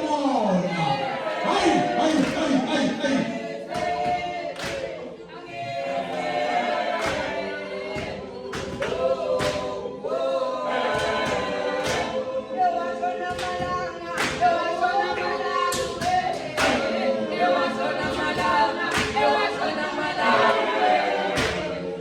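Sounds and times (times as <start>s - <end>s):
group chanting a cappella: 0.0s - 22.0s.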